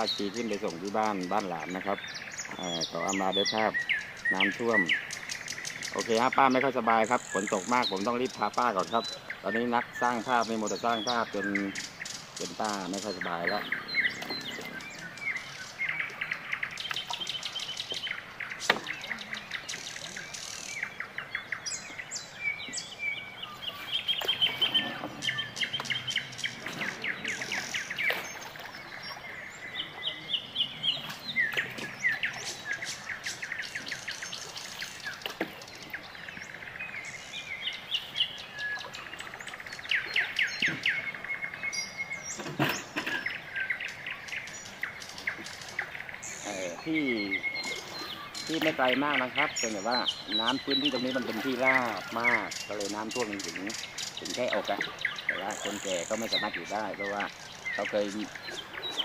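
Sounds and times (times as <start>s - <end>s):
small birds chirping and trilling: 0.0s - 59.0s.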